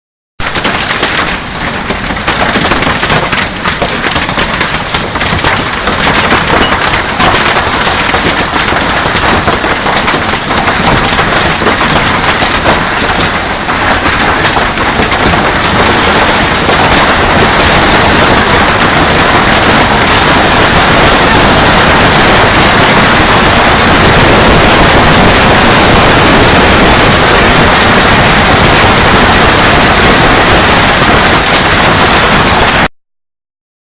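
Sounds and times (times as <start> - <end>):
heavy rain: 0.4 - 32.9.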